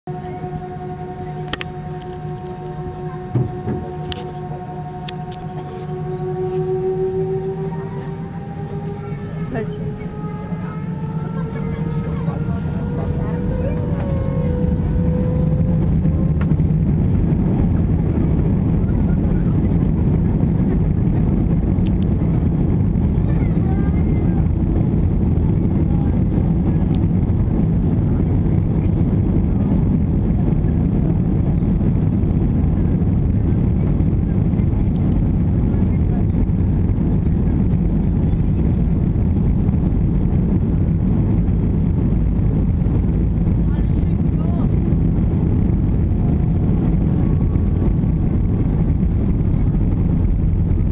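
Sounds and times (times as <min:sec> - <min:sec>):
jet engines rumbling in cabin: 0:00.0 - 0:50.9
wheels running on runway: 0:00.1 - 0:50.9.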